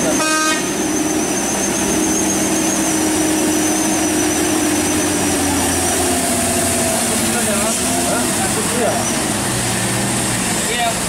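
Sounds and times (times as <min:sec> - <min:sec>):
tyres hissing on wet road: 0:00.0 - 0:11.0
vehicle engines passing: 0:00.0 - 0:11.0.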